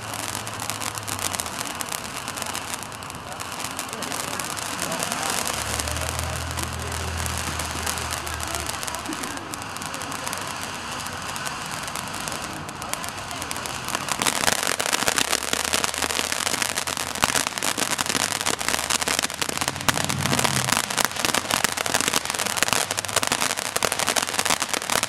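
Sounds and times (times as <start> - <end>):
firework hissing and crackling: 0.0 - 25.0.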